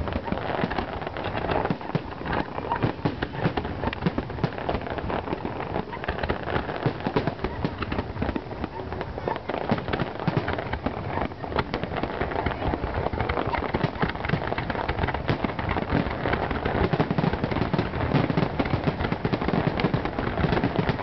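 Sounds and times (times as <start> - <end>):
fireworks crackling and popping: 0.0 - 21.0
heavy firework bangs: 0.0 - 21.0.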